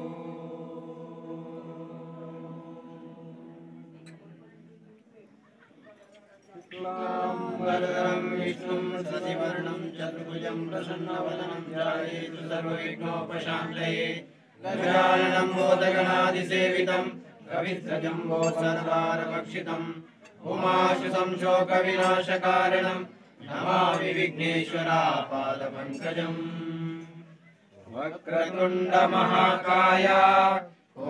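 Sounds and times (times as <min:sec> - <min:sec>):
person chanting: 0:00.0 - 0:04.3, 0:06.7 - 0:27.3, 0:27.9 - 0:31.0.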